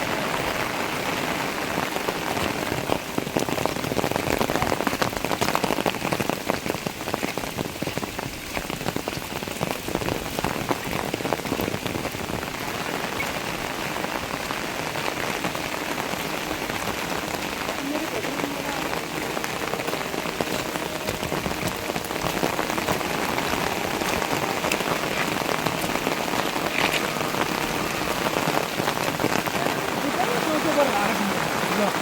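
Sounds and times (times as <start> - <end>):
heavy rain falling: 0.0 - 32.0
raindrops striking close by: 0.0 - 32.0.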